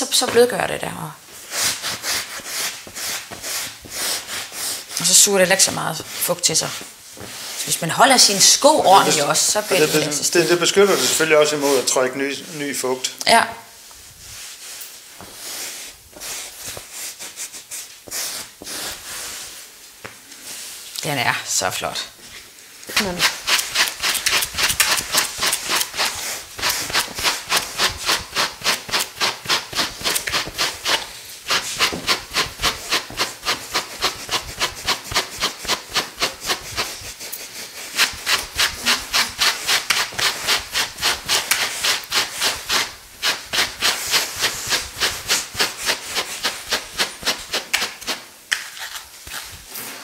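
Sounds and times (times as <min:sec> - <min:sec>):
brushes stroking wool: 0:00.0 - 0:12.8, 0:13.8 - 0:19.8, 0:20.4 - 0:50.0.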